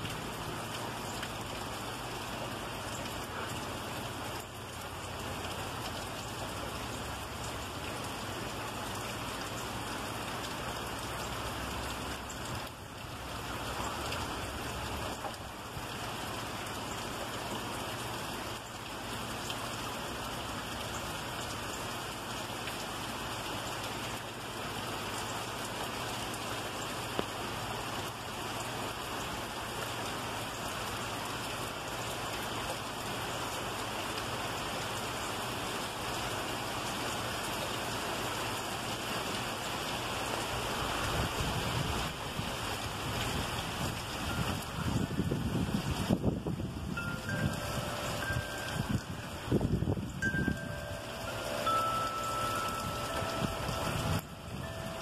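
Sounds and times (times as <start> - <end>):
heavy rain on pavement and trees: 0.0 - 55.0.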